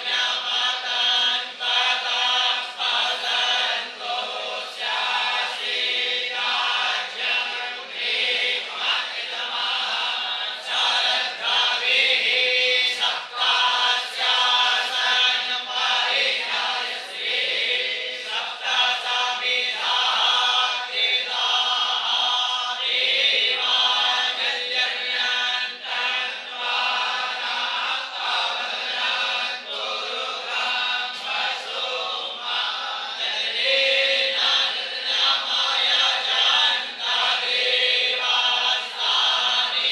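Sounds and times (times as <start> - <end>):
group chanting in unison: 0.0 - 39.9.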